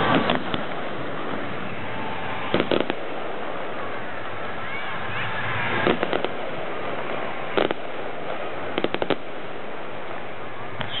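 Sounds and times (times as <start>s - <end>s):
fireworks bangs: 0.0s - 11.0s
fireworks hiss: 0.0s - 11.0s.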